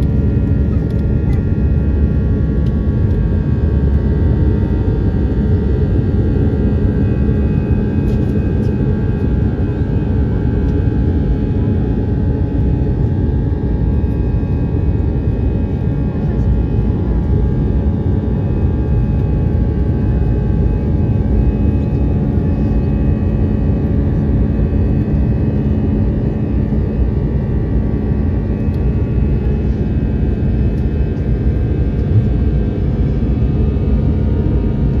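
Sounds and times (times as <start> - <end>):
airliner cabin rumble: 0.0 - 35.0.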